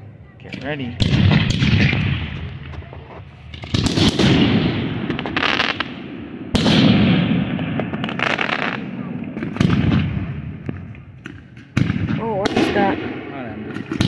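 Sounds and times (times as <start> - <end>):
firework booms: 0.6 - 14.0
firework cracks: 1.0 - 14.0.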